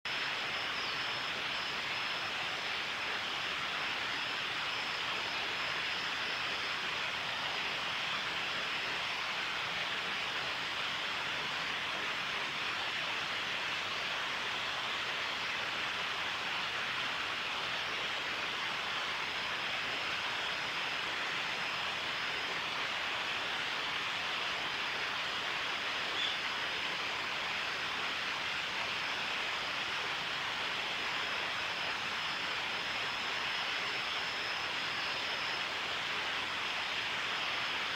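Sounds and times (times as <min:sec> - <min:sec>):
faint high thin whine: 0:00.1 - 0:37.9.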